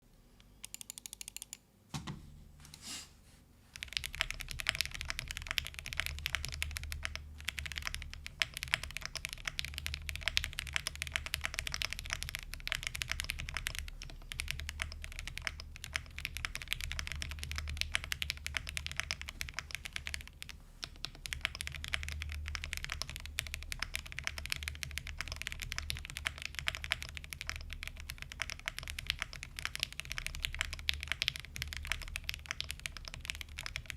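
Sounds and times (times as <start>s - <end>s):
mechanical keyboard typing: 0.6s - 1.6s, 3.8s - 33.9s.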